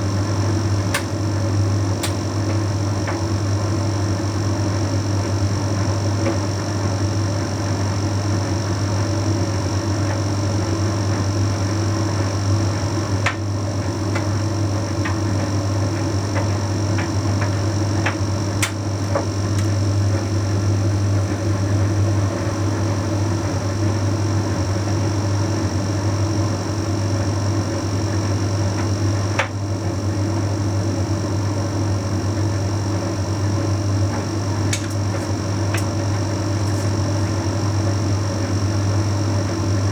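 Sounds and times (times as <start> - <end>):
tumble dryer humming: 0.0 - 39.9.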